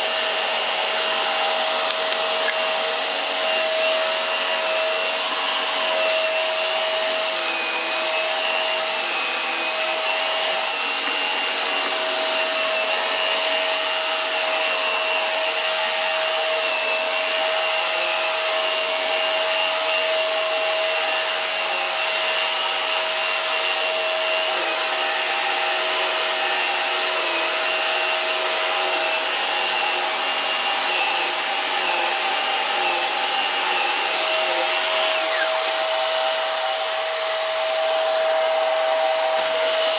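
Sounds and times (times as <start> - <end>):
upright vacuum running: 0.0 - 39.9.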